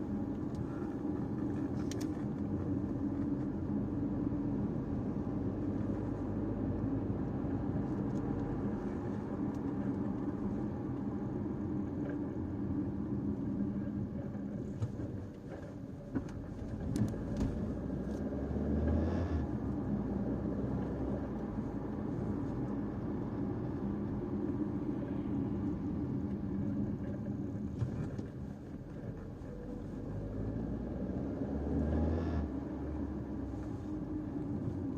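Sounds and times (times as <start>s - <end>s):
car engine and tyre noise: 0.0s - 34.9s.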